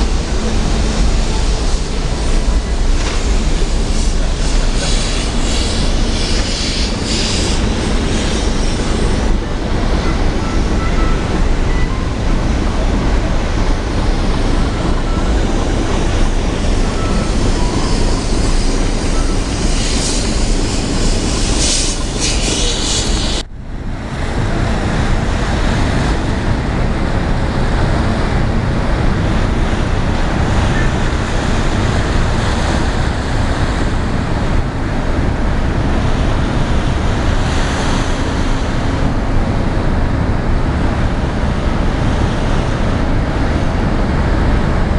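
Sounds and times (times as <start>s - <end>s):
sea water washing along ship: 0.0s - 44.9s.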